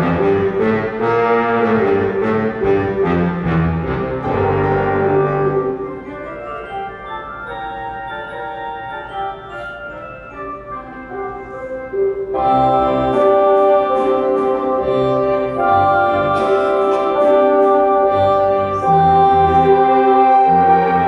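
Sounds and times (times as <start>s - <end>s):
electronic organ playing: 0.0s - 21.0s.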